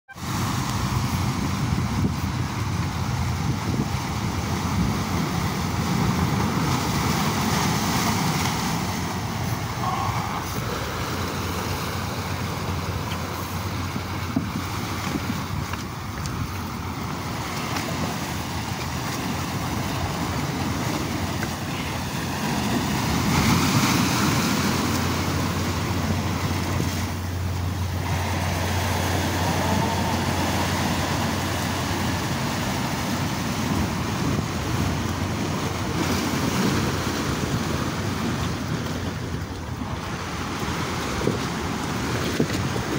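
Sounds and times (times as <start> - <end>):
surf breaking over rocks: 0.1 - 42.9
wind on microphone: 0.1 - 42.9.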